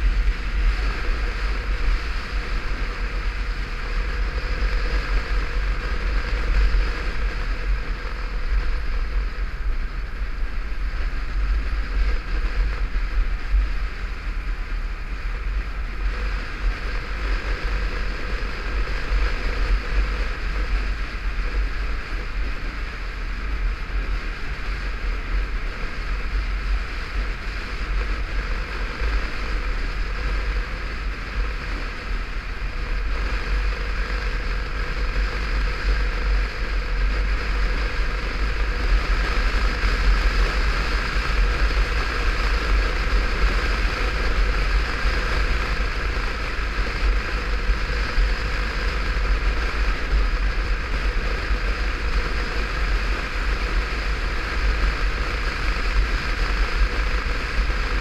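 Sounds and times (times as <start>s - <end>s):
motorcycle engine running: 0.0s - 58.0s
wind rush on helmet: 0.0s - 58.0s.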